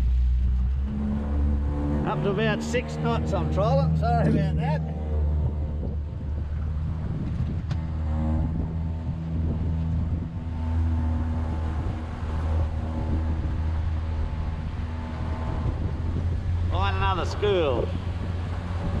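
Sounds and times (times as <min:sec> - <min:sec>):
outboard motor running: 0:00.0 - 0:19.0
wind and water noise: 0:00.0 - 0:19.0.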